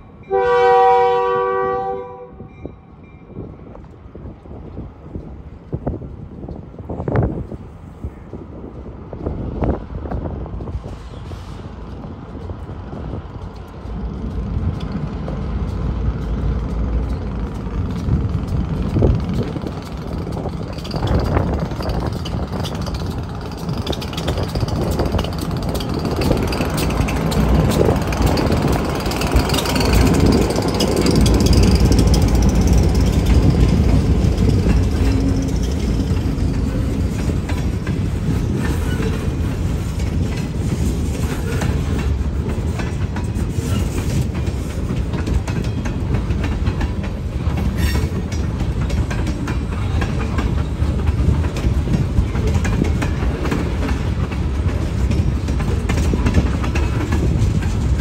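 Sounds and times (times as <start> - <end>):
diesel locomotive engines: 0.0 - 58.0
freight cars rolling on rails: 2.9 - 58.0.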